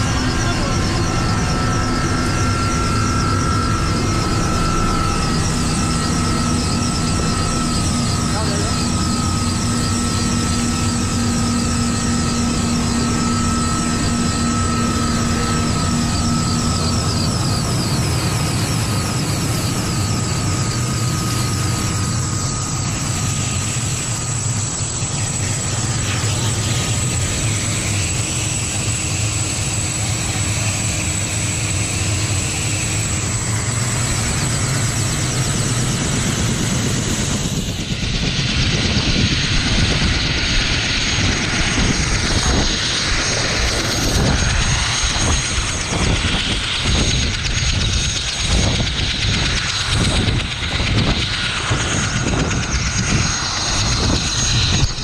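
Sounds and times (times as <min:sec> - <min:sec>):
helicopter rotor rumble: 0:00.0 - 0:55.0
high turbine whine: 0:00.0 - 0:55.0.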